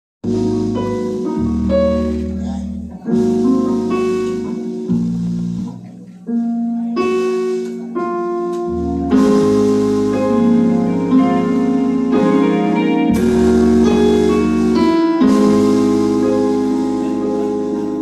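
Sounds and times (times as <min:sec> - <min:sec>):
bass: 0:00.2 - 0:18.0
electric guitar: 0:00.2 - 0:18.0
keyboard: 0:00.2 - 0:18.0.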